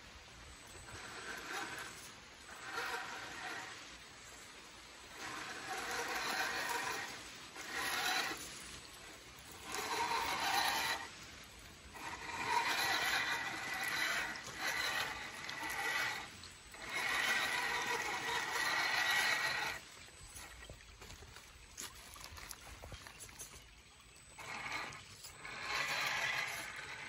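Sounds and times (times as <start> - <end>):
electric motor whining: 0.5 - 4.4, 5.0 - 20.7, 24.2 - 27.0.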